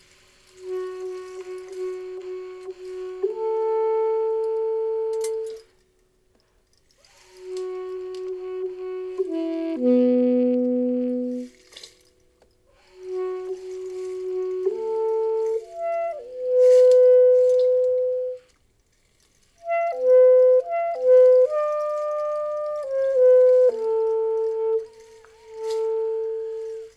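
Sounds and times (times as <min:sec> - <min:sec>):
saxophone melody: 0:00.0 - 0:06.0, 0:06.8 - 0:26.9.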